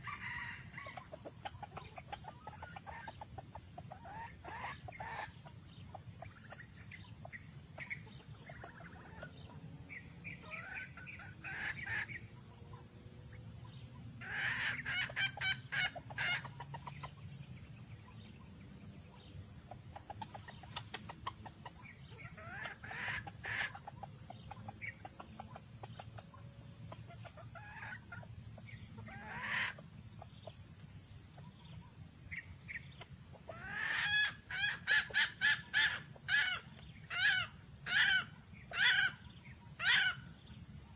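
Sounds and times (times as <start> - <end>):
junglefowl calling and clucking: 0.0 - 40.7.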